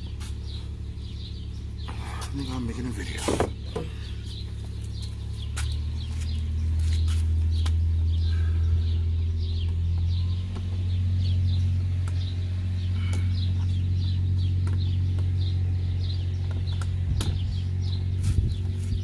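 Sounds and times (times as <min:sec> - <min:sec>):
bird chirping: 0:00.0 - 0:19.0
steady low hum: 0:00.0 - 0:19.0.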